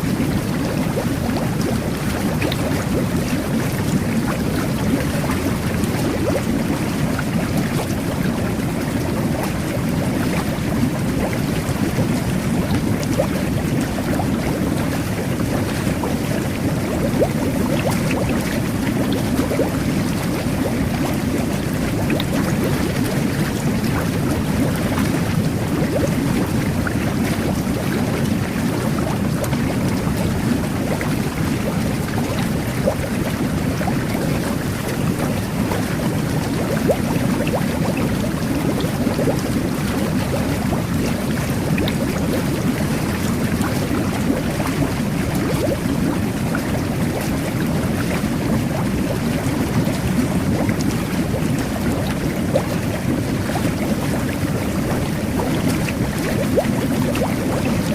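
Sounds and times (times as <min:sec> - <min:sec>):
bubbles popping: 0:00.0 - 0:57.9
churning water and air: 0:00.0 - 0:57.9.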